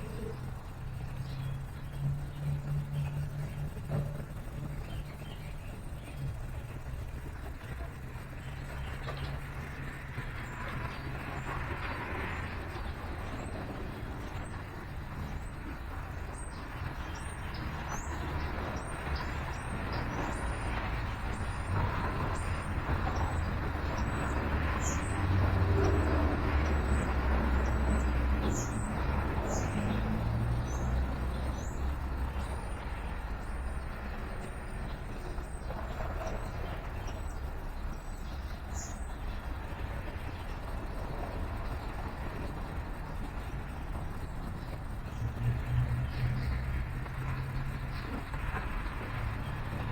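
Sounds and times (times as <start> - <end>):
low traffic rumble: 0.0 - 49.9
vehicle passing: 0.0 - 49.9.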